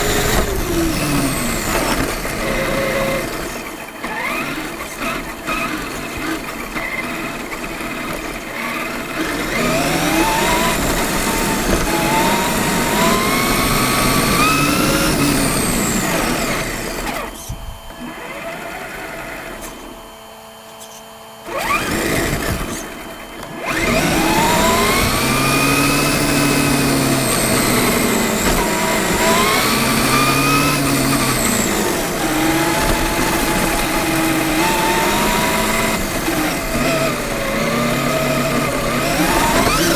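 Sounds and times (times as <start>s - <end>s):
electric toy truck motor whining: 0.0s - 39.9s.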